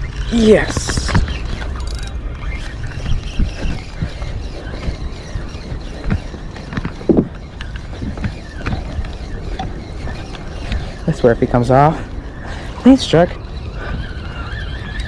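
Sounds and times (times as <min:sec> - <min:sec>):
fishing reel clicking and creaking: 0:00.0 - 0:15.0.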